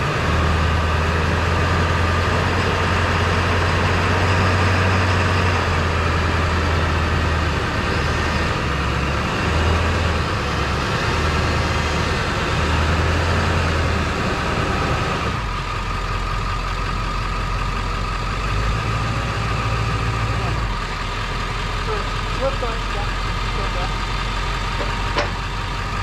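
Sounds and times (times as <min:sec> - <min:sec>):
truck engine hum: 0:00.0 - 0:26.0.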